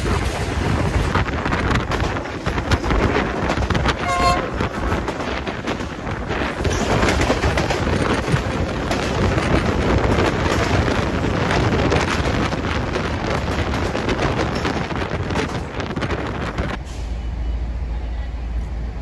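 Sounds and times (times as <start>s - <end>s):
wheels clattering on rails: 0.0s - 16.8s.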